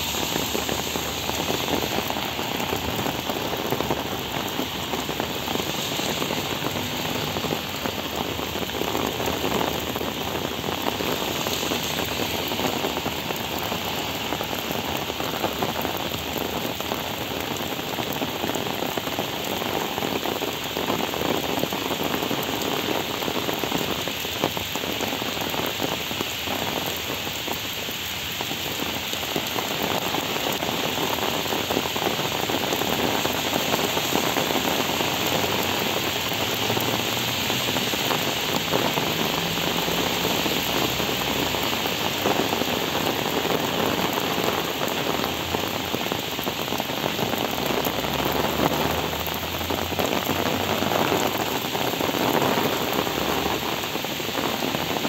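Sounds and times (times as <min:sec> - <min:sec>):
heavy rain on standing water: 0:00.0 - 0:55.0.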